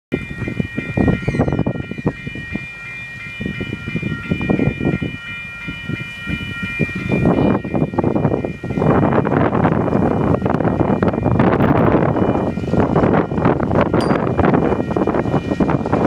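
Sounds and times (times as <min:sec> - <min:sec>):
wind buffeting microphone: 0:00.1 - 0:16.0.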